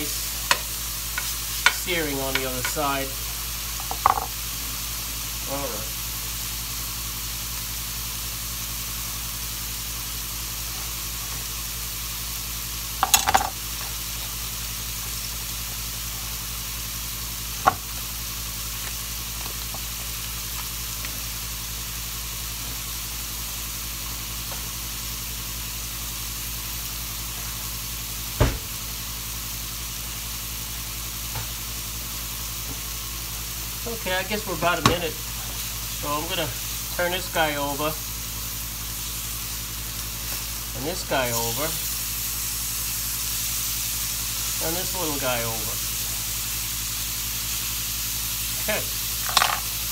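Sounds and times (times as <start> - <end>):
steaks sizzling in a skillet: 0.0 - 49.9.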